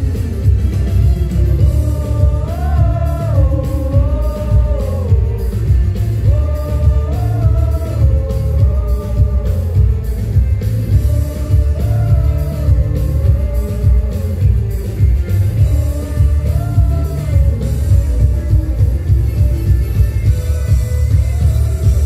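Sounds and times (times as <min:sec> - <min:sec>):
electric guitar: 0:00.0 - 0:22.0
heavy bass: 0:00.0 - 0:22.0
person singing: 0:00.0 - 0:22.0.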